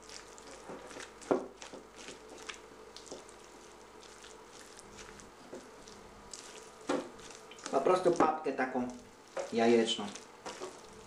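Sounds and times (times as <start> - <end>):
spatula squelching and scraping: 0.0 - 11.0.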